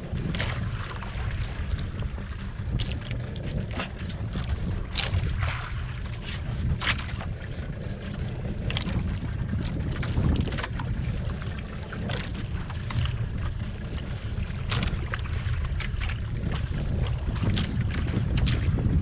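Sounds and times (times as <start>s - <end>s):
water splashing against boat: 0.0s - 19.0s
wind rumbling on microphone: 0.0s - 19.0s.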